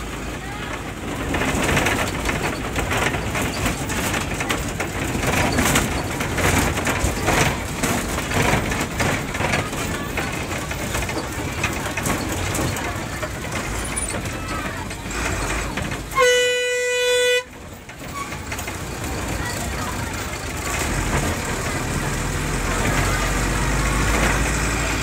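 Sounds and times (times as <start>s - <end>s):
bus body rattling and knocking: 0.0s - 25.0s
engine and road rumble: 0.0s - 25.0s.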